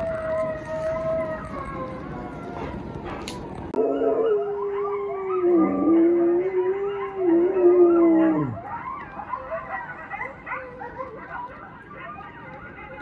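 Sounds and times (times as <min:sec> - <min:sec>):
coyotes yipping and howling on television: 0:00.0 - 0:13.0
dog howling: 0:00.0 - 0:13.0.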